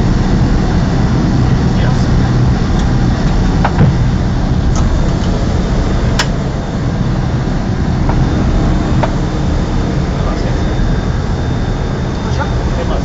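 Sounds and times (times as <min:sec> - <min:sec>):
jet engine and airflow roar: 0:00.0 - 0:13.0.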